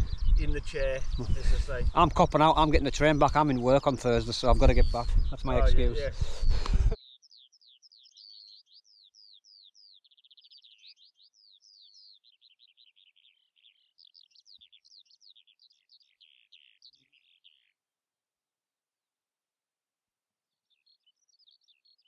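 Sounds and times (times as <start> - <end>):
faint songbird chirps and trills: 0.0 - 17.9, 20.5 - 22.0.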